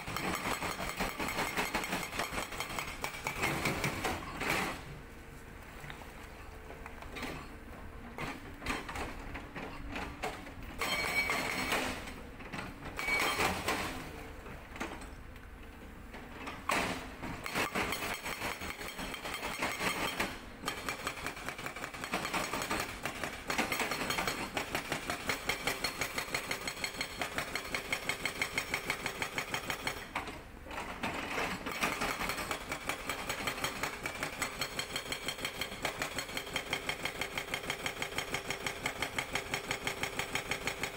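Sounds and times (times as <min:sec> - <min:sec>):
hydraulic breaker hammering rock: 0:00.0 - 0:04.8, 0:08.2 - 0:14.1, 0:16.6 - 0:40.9.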